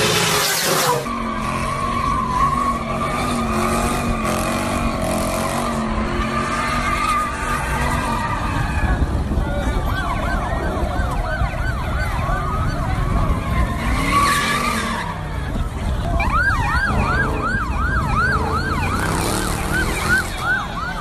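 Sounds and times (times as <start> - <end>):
car engine and road noise: 0.0 - 21.0
police siren yelping: 0.9 - 21.0.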